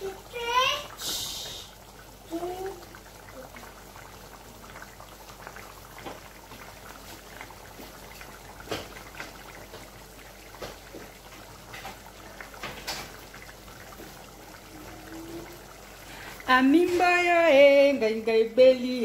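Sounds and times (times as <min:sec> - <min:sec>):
soup bubbling: 0:00.0 - 0:19.0.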